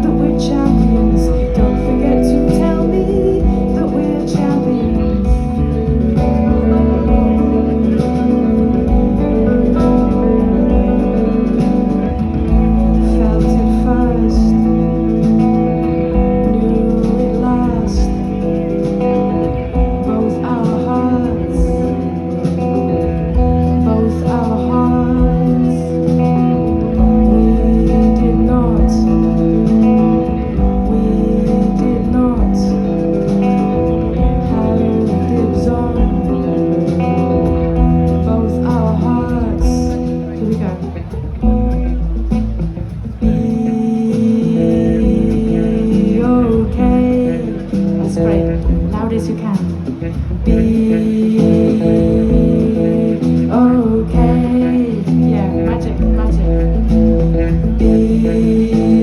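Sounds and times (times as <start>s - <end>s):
guitar: 0.0s - 59.0s
live band playing: 0.0s - 59.0s
steady bass line: 0.0s - 59.0s.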